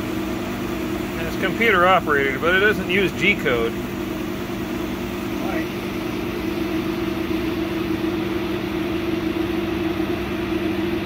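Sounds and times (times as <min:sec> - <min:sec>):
laser cutter humming: 0:00.0 - 0:11.0.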